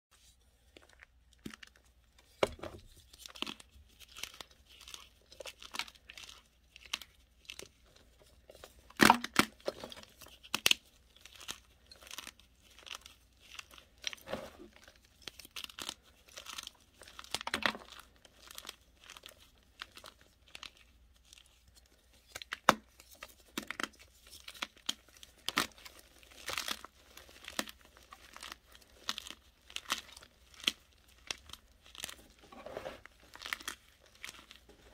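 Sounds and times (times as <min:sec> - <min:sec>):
hands crushing chalk: 0:00.7 - 0:34.9.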